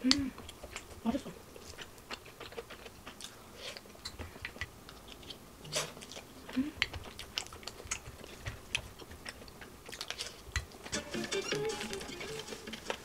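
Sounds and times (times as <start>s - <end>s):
chewing fried rice: 0.0s - 10.9s, 11.8s - 13.0s.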